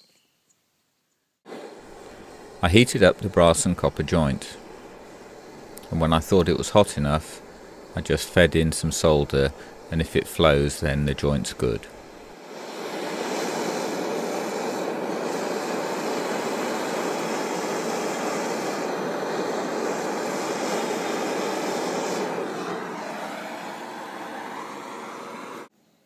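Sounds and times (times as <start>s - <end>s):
blowtorch flame burning: 1.5s - 25.7s.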